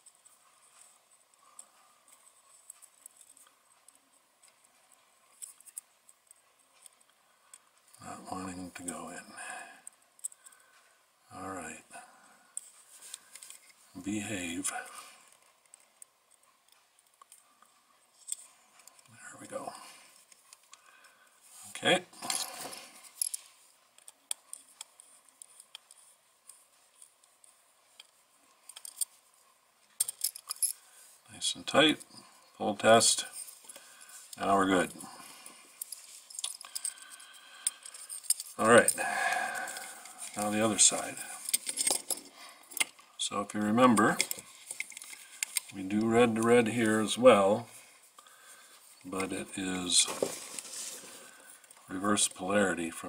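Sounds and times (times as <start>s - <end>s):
small clicks and rustles of wires: 0.0s - 11.1s, 11.9s - 52.9s.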